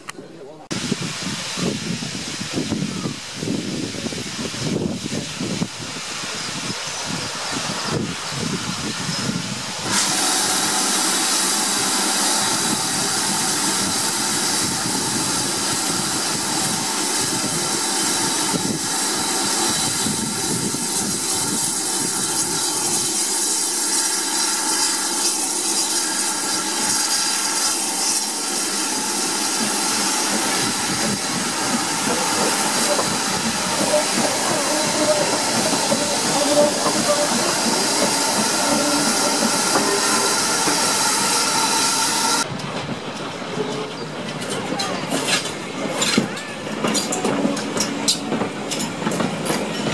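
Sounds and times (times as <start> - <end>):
steam locomotive hissing: 0.7 - 49.9.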